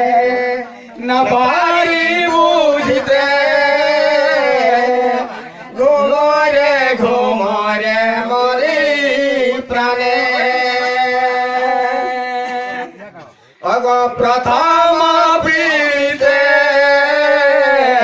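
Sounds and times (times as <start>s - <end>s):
men singing chant-like folk song: 0.0s - 18.0s.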